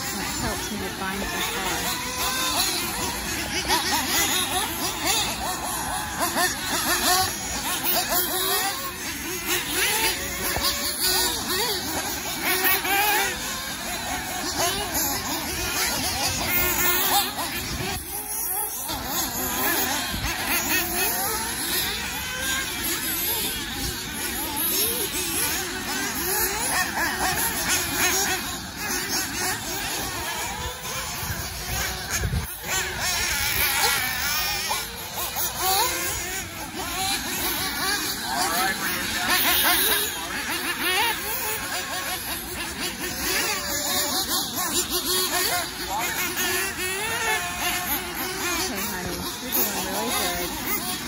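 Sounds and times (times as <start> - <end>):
rc buggy engines revving: 0.0 - 51.0.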